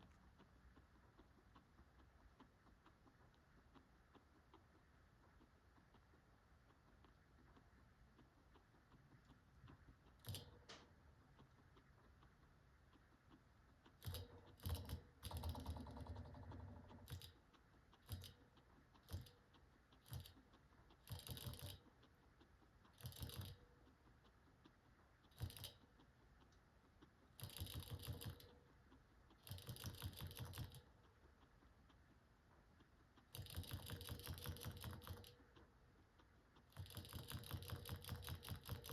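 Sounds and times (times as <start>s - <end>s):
guinea pig crunching pellets: 0.0s - 38.9s.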